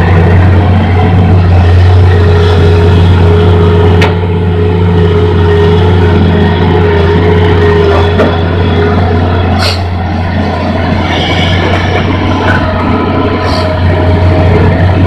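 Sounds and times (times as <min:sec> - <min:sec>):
excavator diesel engine running: 0:00.0 - 0:15.0
steady whine: 0:00.0 - 0:15.0.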